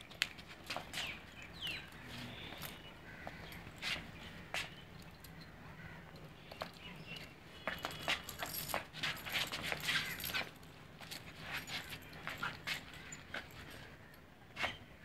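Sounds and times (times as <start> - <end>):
metal chain leash rattling: 0.0 - 14.8.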